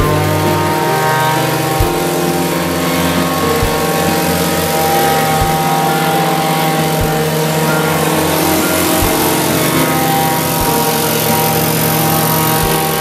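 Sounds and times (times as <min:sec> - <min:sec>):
plate compactor engine running: 0:00.0 - 0:13.0.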